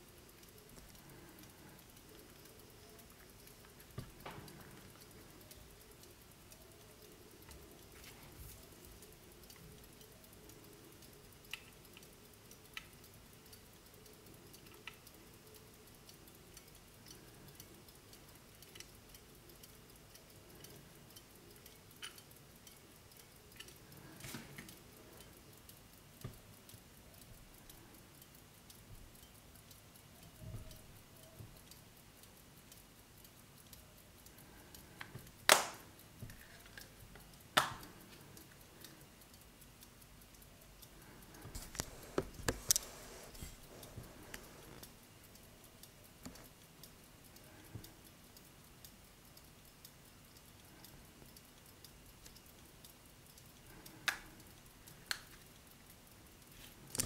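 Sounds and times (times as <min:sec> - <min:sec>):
pocket watch ticking: 0:00.0 - 0:57.0.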